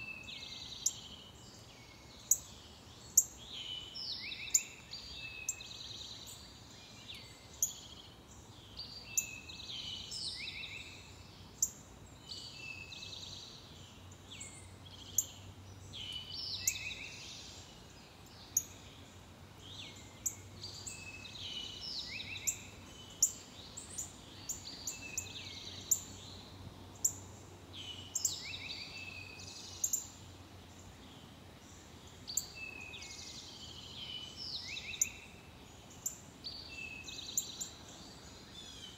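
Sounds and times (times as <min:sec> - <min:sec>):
faint steady hiss: 0:00.0 - 0:38.9
songbirds singing: 0:00.0 - 0:38.9.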